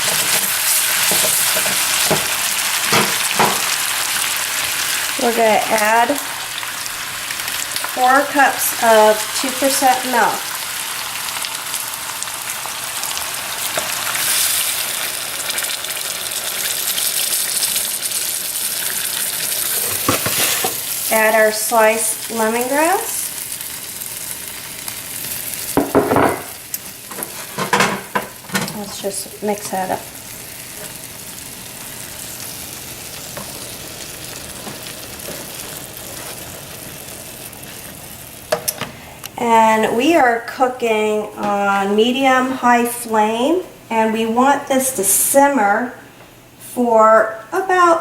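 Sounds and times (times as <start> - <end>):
chicken sizzling in a frying pan: 0.0 - 39.2.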